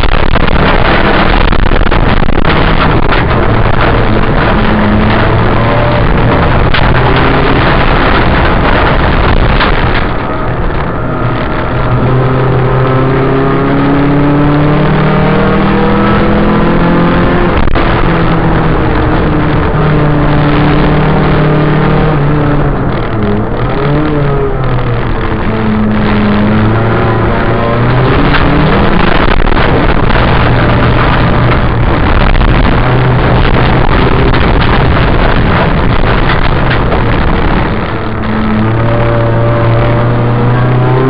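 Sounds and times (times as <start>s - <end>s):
racing car engine revving: 0.0s - 41.0s.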